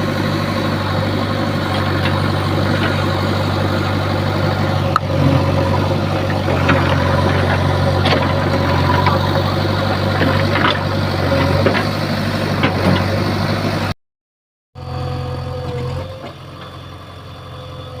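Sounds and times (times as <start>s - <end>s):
backhoe diesel engine running: 0.0s - 14.0s, 14.8s - 18.0s.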